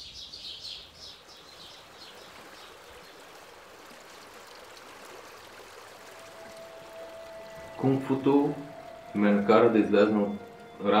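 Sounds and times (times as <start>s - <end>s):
mountain river rushing: 1.0s - 11.0s.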